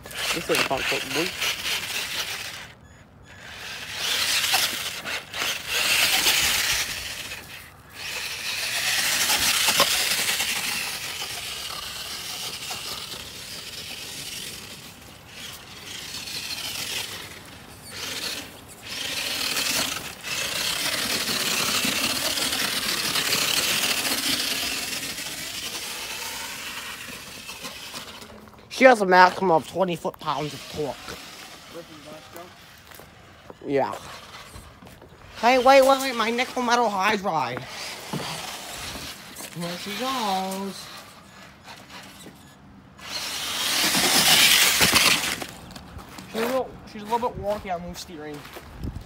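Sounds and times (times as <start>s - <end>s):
electric motor and gears whining: 0.0s - 49.0s
tyres crunching through dry grass: 3.4s - 42.2s, 43.0s - 49.0s.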